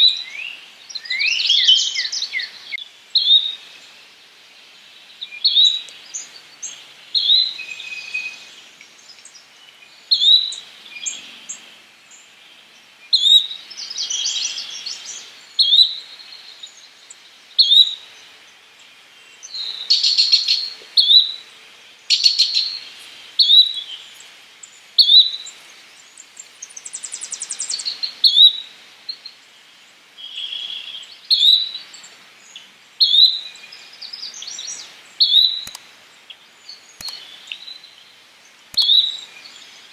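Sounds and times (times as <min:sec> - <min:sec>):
flycatcher calling: 0:05.2 - 0:18.3, 0:19.4 - 0:21.4, 0:22.0 - 0:29.4, 0:30.2 - 0:39.9.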